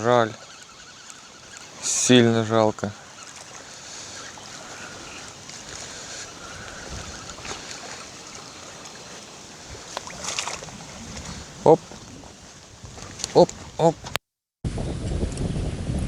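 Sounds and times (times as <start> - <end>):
faint clicks: 0.0 - 14.2
waves at water's edge: 0.0 - 14.2
wind: 0.0 - 16.0.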